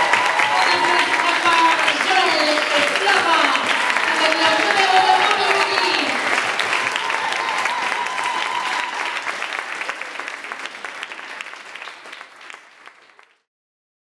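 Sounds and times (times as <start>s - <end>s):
audience clapping: 0.0s - 13.5s.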